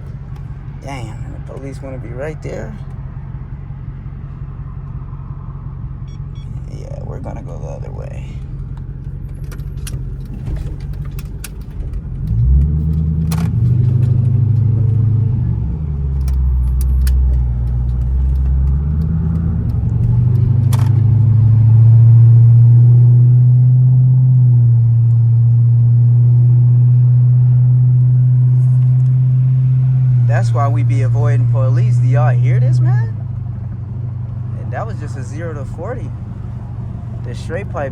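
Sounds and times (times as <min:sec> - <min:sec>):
car engine accelerating hard: 0:00.0 - 0:37.9.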